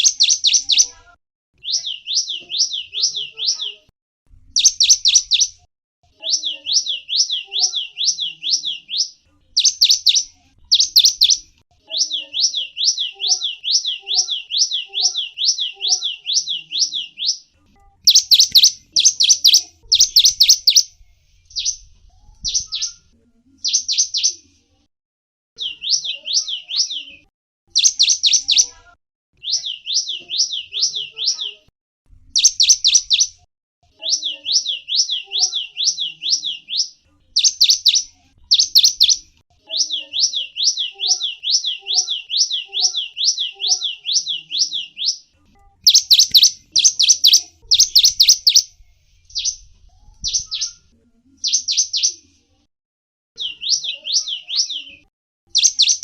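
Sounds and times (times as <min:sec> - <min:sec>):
finch chirping: 0:00.0 - 0:01.0, 0:01.6 - 0:03.8, 0:04.5 - 0:21.8, 0:22.4 - 0:23.0, 0:23.6 - 0:24.4, 0:25.6 - 0:28.8, 0:29.4 - 0:31.6, 0:32.3 - 0:33.4, 0:34.0 - 0:49.6, 0:50.2 - 0:50.8, 0:53.4 - 0:56.0.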